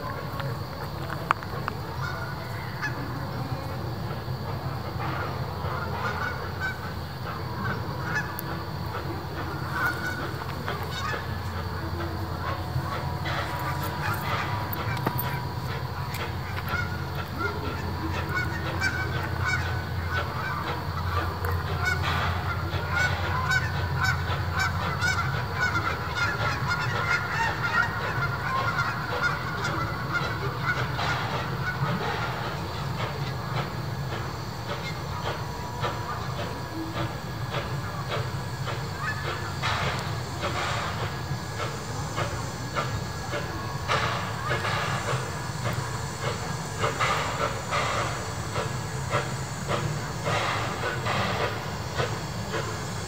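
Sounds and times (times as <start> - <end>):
clicks of exhaust and wheels: 0.0 - 53.0
steam locomotive rumbling: 0.0 - 53.0.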